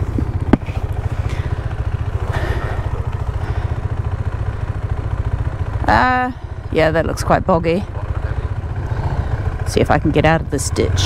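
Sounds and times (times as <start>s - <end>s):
motorcycle engine throbbing: 0.0s - 11.0s.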